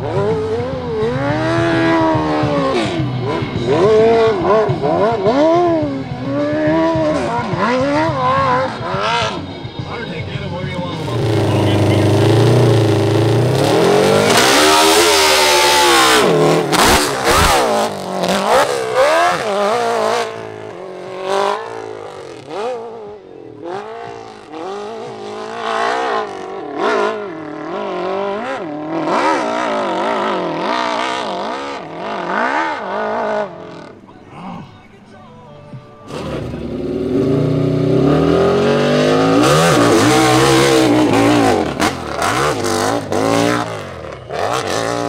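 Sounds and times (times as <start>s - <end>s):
motorcycle engine revving: 0.0s - 34.1s, 36.1s - 45.0s.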